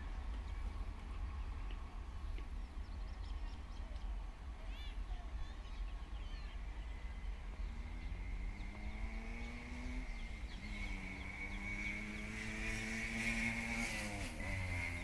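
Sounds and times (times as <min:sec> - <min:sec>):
distant engines rumbling: 0:00.0 - 0:15.0
faint engine hum: 0:00.0 - 0:15.0.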